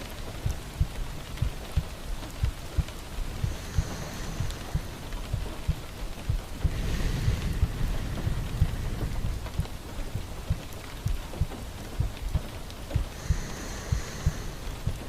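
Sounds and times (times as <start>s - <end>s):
steady hiss of rain: 0.0s - 15.0s.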